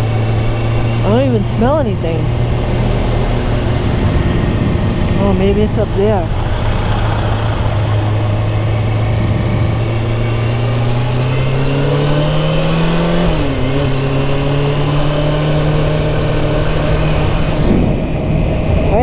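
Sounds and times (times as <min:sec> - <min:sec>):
motorcycle engine riding off: 0:00.0 - 0:19.0.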